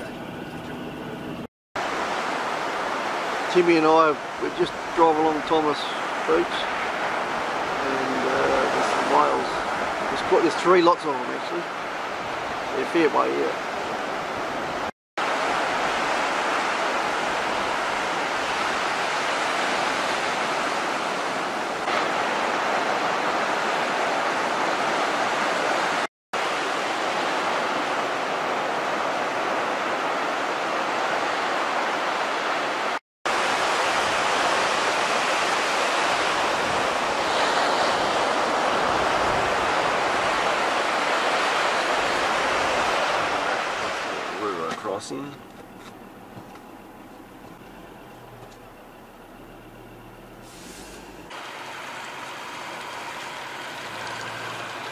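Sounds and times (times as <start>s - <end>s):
ocean surf washing onto beach: 1.8s - 45.4s, 51.3s - 54.9s.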